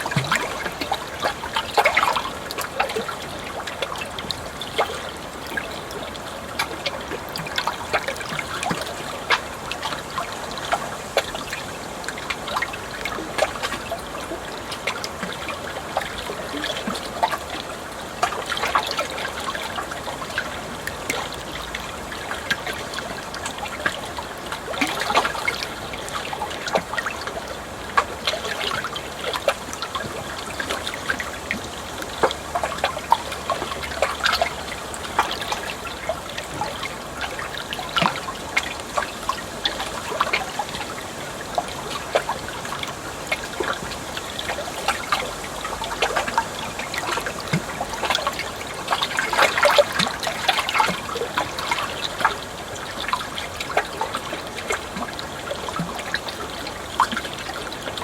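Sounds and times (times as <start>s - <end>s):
small splashes: 0.0s - 58.0s
water trickling and babbling: 0.0s - 58.0s.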